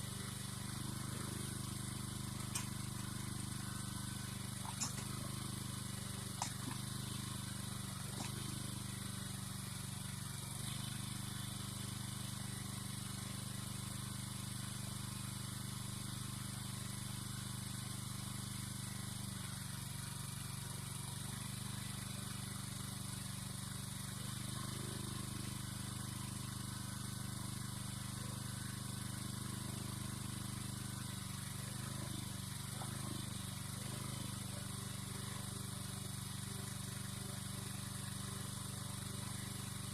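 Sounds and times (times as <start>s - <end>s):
engine running: 0.0s - 15.4s, 16.0s - 39.9s.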